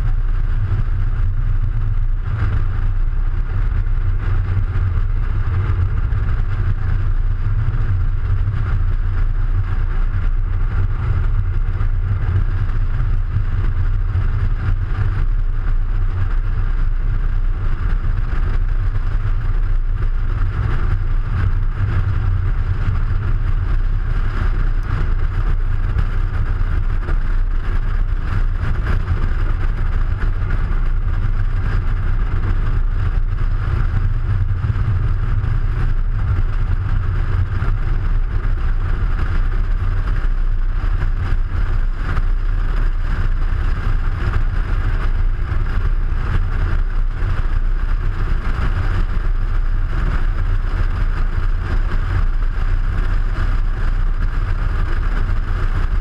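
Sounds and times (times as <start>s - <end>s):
road and wind noise rumble: 0.0s - 56.0s.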